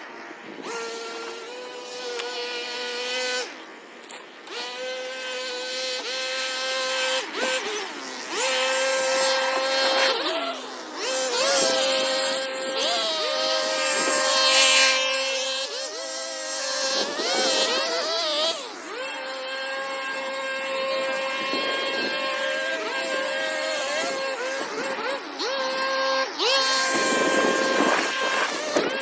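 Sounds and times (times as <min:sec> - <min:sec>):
small gasoline engine running: 0:04.4 - 0:29.0.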